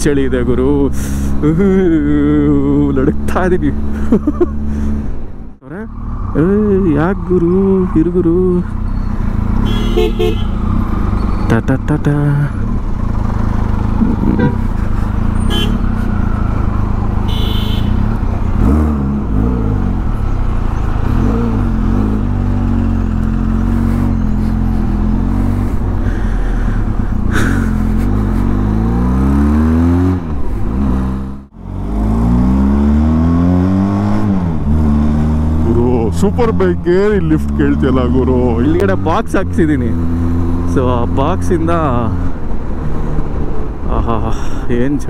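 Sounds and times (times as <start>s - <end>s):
road and wind noise: 0.0s - 45.0s
motorcycle engine accelerating: 5.7s - 44.5s.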